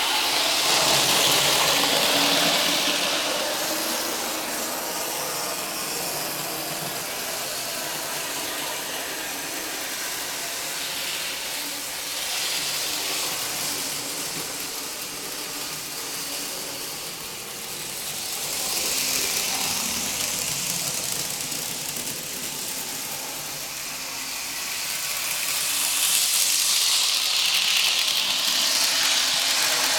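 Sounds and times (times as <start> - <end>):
model train whirring on rails: 0.0 - 29.9.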